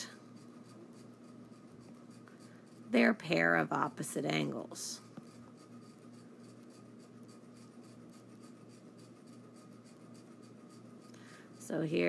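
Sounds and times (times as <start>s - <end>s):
fingertip scratching on touchscreen: 0.0s - 12.0s
low electrical hum: 0.0s - 12.0s.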